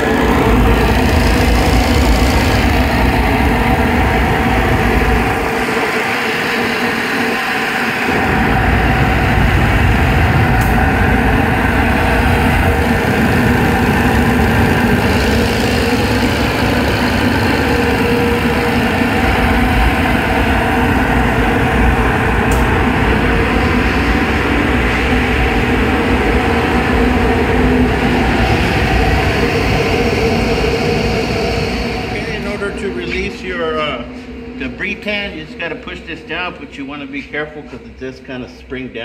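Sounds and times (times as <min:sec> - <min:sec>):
deep rumble: 0:00.0 - 0:37.9
dust collector running: 0:00.0 - 0:38.4.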